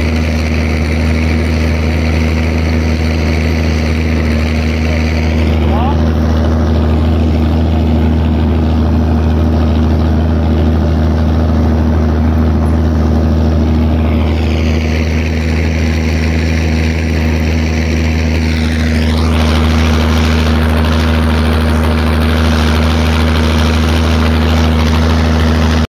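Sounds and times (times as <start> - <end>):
tractor diesel engine under load: 0.0 - 25.9.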